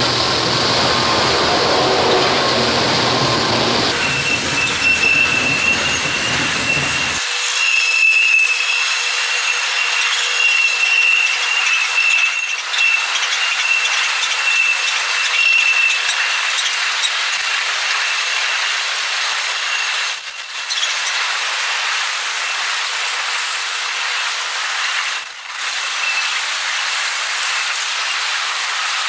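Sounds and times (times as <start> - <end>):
rattle of rolling wagons: 0.0 - 7.2, 8.1 - 29.0
diesel locomotive engine: 0.0 - 29.0
high-pitched wheel squeal: 3.9 - 28.2.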